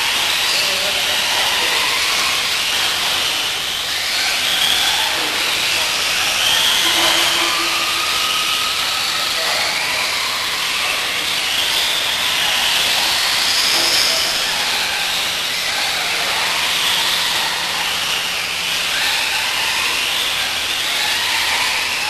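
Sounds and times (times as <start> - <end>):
electric motors whining: 0.0 - 22.0
rc cars racing: 0.0 - 22.0.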